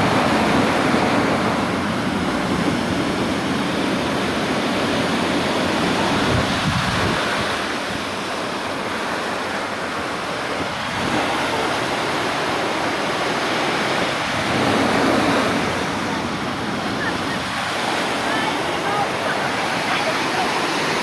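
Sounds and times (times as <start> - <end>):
heavy surf on a beach: 0.0 - 21.0.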